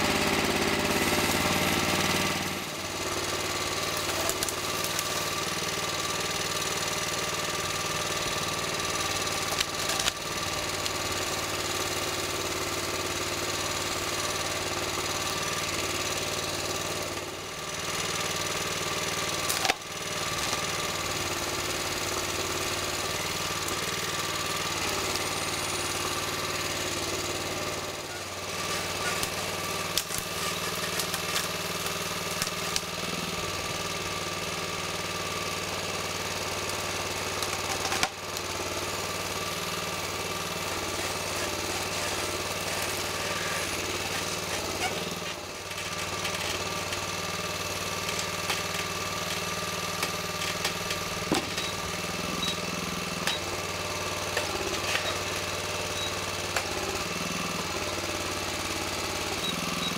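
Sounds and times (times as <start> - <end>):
forest machine engine running: 0.0 - 59.9.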